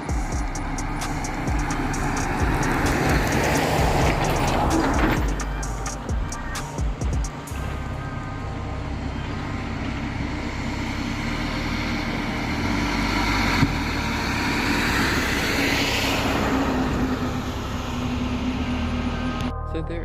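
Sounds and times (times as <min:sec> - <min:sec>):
vehicle passing: 0:00.0 - 0:19.6.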